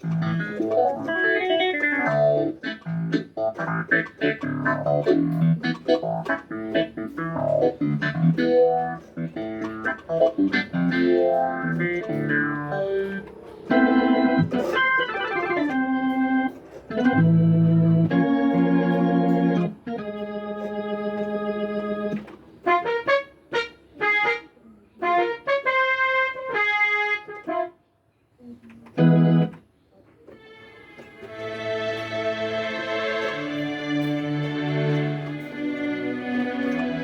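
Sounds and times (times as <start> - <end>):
keyboard playing organ chords: 0.0 - 27.9, 28.6 - 37.0.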